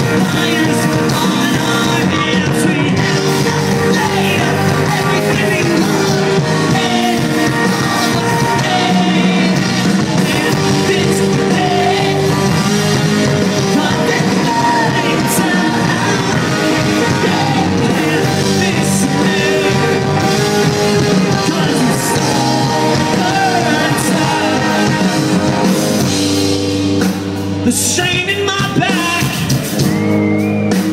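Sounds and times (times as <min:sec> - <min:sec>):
person singing: 0:00.0 - 0:26.0
live rock band playing: 0:00.0 - 0:30.9.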